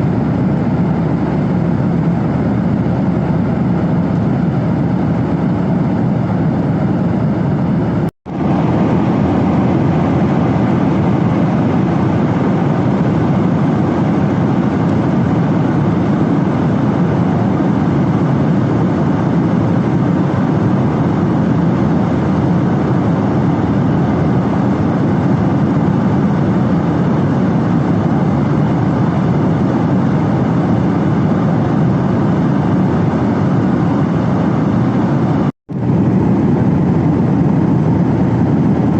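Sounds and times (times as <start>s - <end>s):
airliner engines and airflow rushing: 0.0s - 38.9s.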